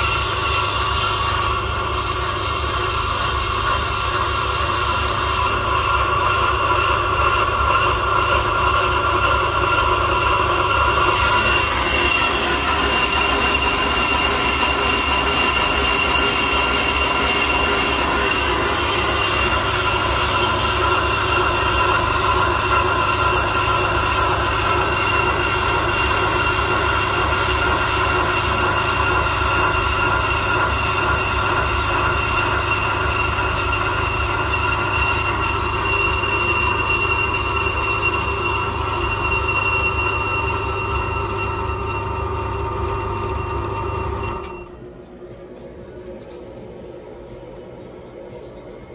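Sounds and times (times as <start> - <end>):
metallic ringing squeal: 0.0 - 44.9
lathe spindle hum: 0.0 - 48.9.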